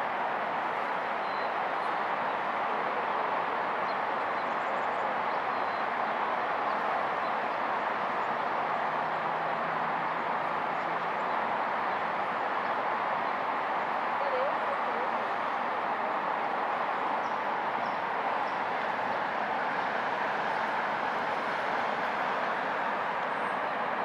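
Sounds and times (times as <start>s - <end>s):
outdoor background rush: 0.0s - 24.0s.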